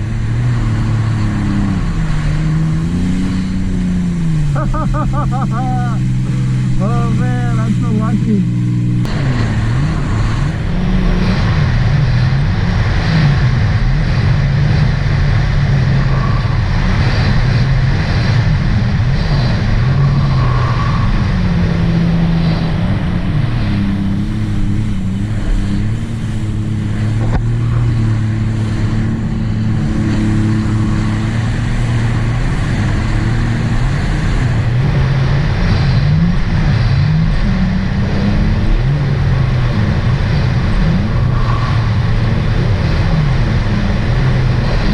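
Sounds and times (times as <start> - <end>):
jet ski engine revving: 0.0 - 44.9.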